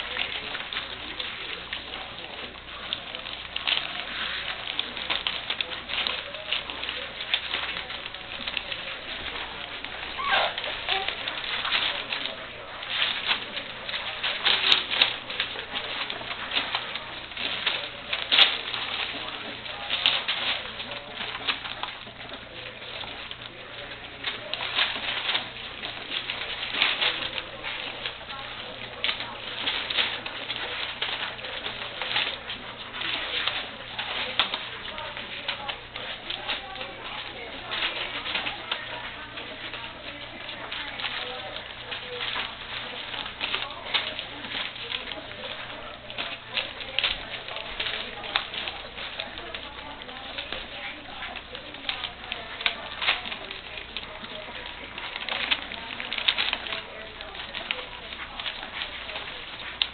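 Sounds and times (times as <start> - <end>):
puppies chewing and lapping: 0.0 - 59.9.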